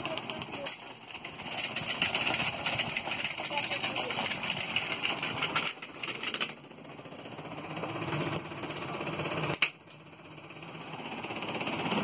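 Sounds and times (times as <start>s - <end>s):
fan blades knocking and rattling: 0.0s - 12.0s.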